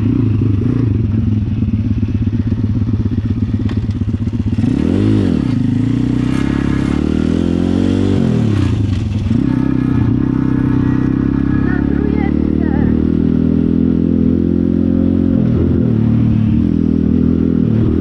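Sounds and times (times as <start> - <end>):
motorbike engine idling and revving: 0.0 - 18.0.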